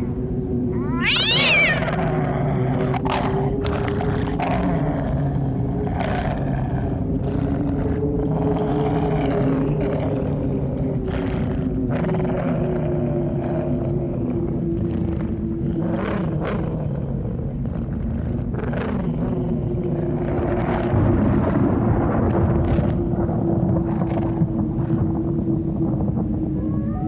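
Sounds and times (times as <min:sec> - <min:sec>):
low hum over rumble: 0:00.0 - 0:27.0.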